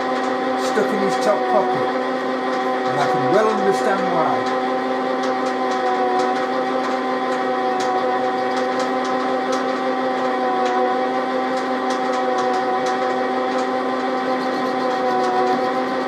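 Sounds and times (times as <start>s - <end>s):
metal lathe gear whine: 0.0s - 16.0s.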